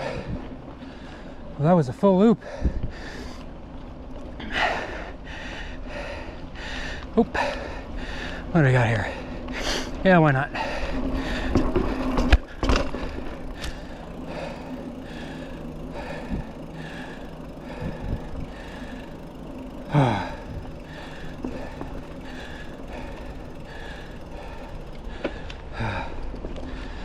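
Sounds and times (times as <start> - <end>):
bike trail noise: 0.0 - 27.0
person breathing hard: 2.4 - 3.5, 4.4 - 12.3, 13.1 - 27.0.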